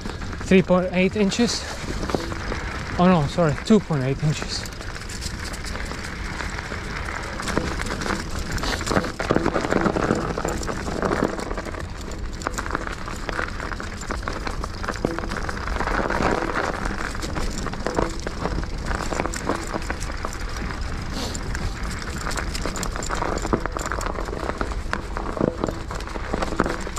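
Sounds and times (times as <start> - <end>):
bike rattling over bumps: 0.0 - 26.9
bike tyres crunching on snow: 0.0 - 26.9.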